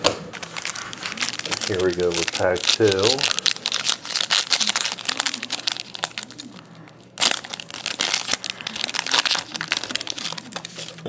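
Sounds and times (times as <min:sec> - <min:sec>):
wrapper crinkling: 0:00.3 - 0:11.0
wrapper ripping: 0:00.3 - 0:11.0.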